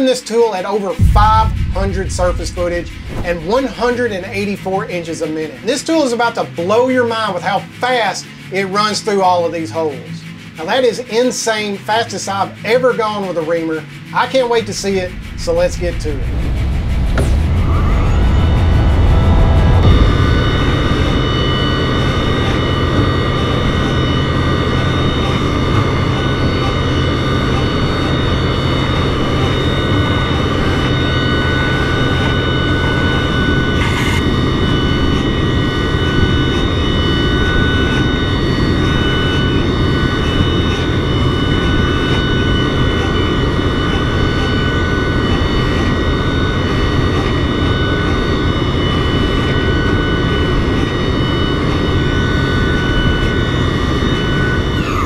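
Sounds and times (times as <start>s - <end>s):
machine whining over hiss: 0.8s - 55.0s.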